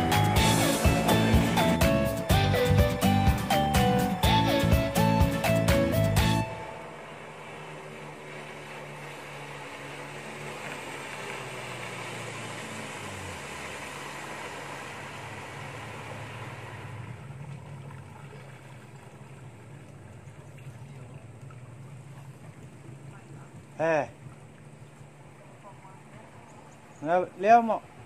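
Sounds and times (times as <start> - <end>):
boat wake hissing: 0.0 - 28.0
outboard motor running: 0.0 - 28.0.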